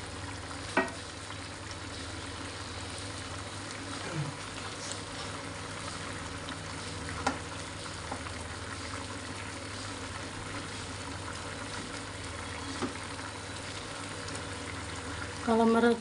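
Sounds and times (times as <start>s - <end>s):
food bubbling and sizzling in pan: 0.0s - 16.0s.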